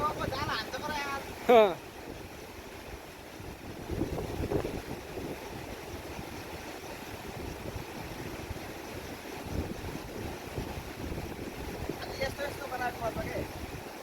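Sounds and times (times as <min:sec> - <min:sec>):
river rushing: 0:00.0 - 0:14.0
wind buffeting microphone: 0:00.0 - 0:14.0.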